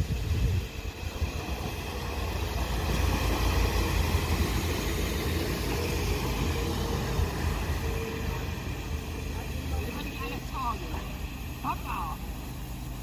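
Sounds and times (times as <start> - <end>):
passenger train passing rumble: 0.0 - 13.0.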